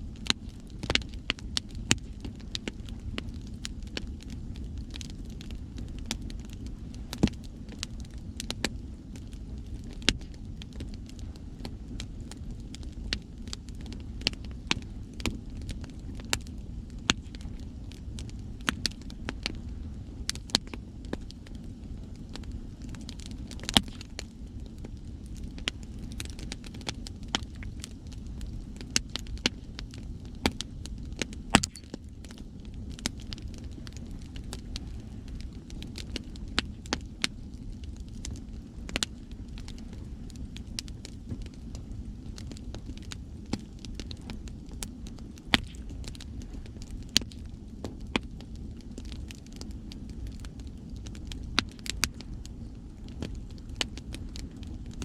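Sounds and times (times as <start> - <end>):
bonfire crackling and popping: 0.0 - 55.0.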